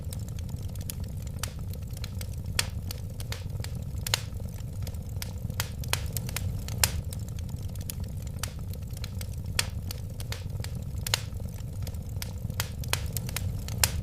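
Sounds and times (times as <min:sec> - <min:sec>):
flames rumbling: 0:00.0 - 0:14.0
wood fire crackling and popping: 0:00.0 - 0:14.0.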